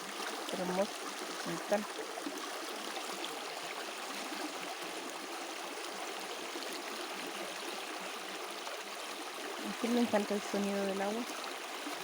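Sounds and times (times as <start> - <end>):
water babbling in channel: 0.0 - 12.0.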